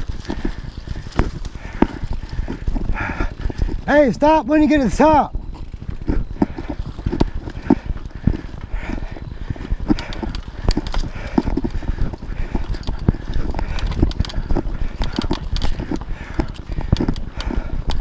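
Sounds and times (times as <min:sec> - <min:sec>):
bike rattling and knocking: 0:00.0 - 0:18.0
bike tyres rumbling on dirt: 0:00.0 - 0:18.0
rider breathing heavily: 0:00.0 - 0:18.0.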